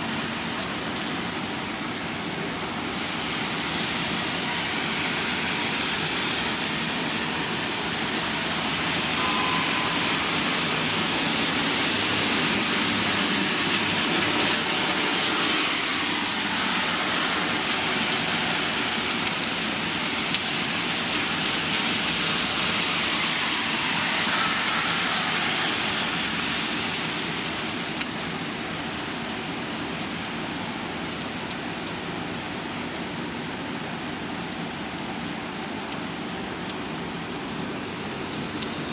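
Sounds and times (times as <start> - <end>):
rain-like hiss: 0.0 - 38.9.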